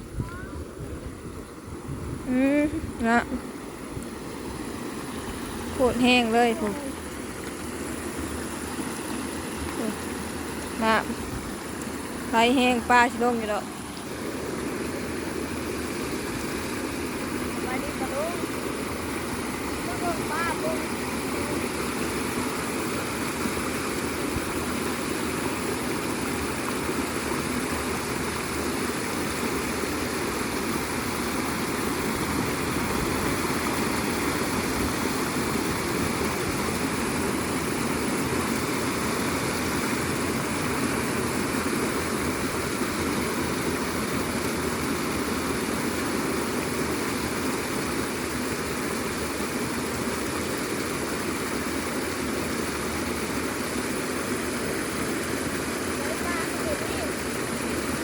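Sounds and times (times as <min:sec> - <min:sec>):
floodwater rushing: 0:02.8 - 0:51.9, 0:52.5 - 0:58.0.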